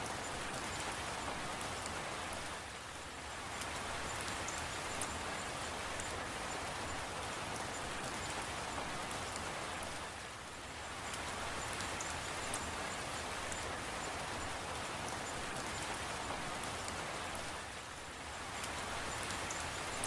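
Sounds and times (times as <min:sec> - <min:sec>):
rain falling: 0:00.0 - 0:20.0
raindrops dripping: 0:00.0 - 0:20.0.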